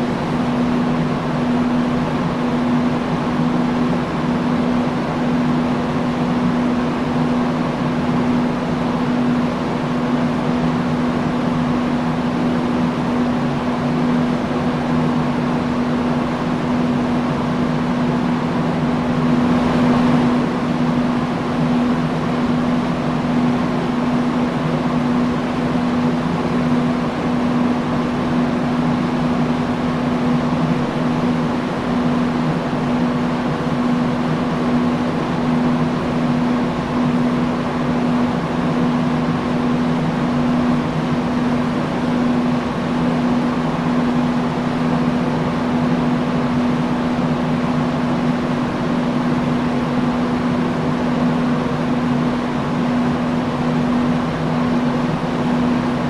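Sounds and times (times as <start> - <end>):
industrial fan running: 0.0 - 56.0.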